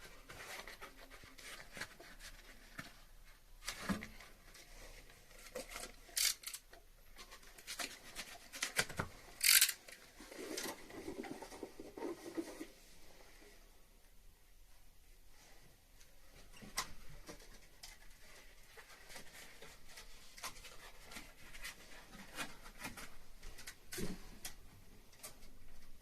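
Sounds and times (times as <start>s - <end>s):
hands rustling and tapping on piping: 0.0s - 12.8s, 15.4s - 26.0s.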